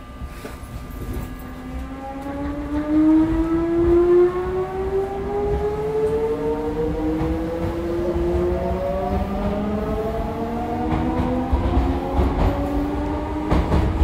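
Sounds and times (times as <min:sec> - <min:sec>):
train running rumble: 0:00.0 - 0:14.0
electric train motor whine: 0:00.9 - 0:14.0.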